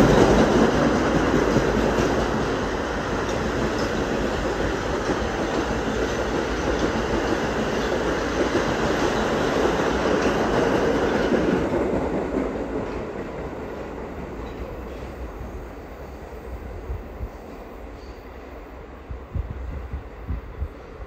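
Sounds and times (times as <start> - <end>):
subway train passing: 0.0 - 21.0.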